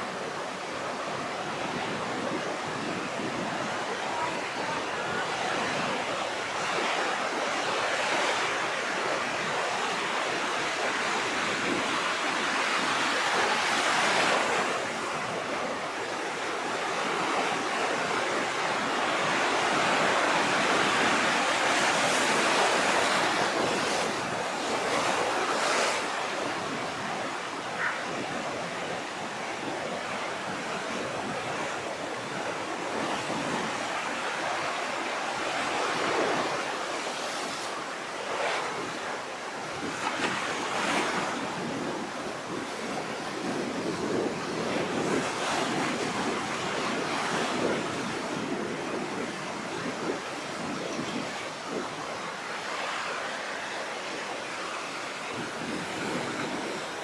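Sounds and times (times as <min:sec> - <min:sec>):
surf breaking and washing: 0:00.0 - 0:57.0.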